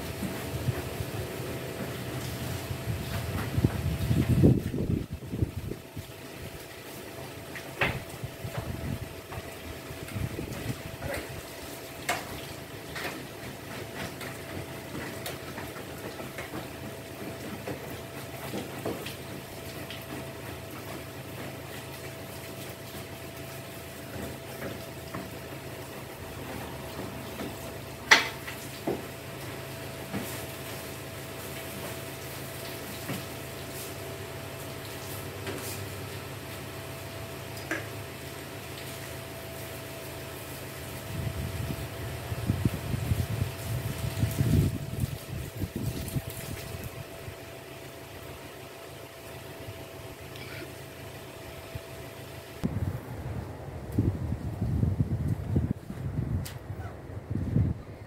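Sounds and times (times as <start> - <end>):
water splashing from a hose: 0.0 - 57.7.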